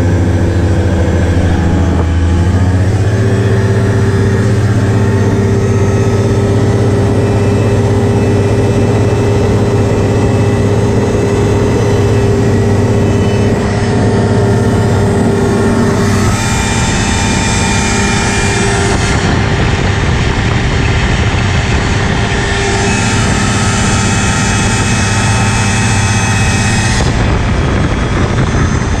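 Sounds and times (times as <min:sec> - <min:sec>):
ultralight engine and propeller: 0:00.0 - 0:29.0.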